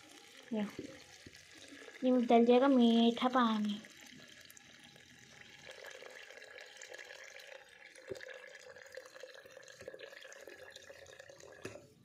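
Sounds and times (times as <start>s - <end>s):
water pouring into jug: 0.0s - 12.0s.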